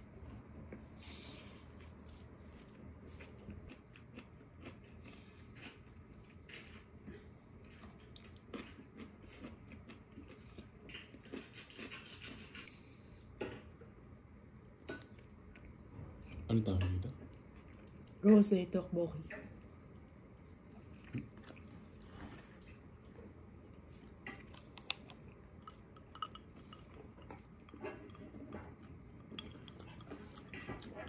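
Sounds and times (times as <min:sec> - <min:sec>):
person chewing food: 0:00.0 - 0:16.5, 0:17.1 - 0:18.2, 0:19.6 - 0:31.0.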